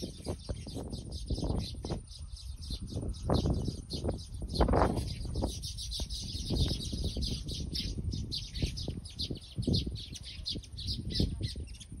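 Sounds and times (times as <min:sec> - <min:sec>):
weaver birds chattering: 0:00.0 - 0:12.0.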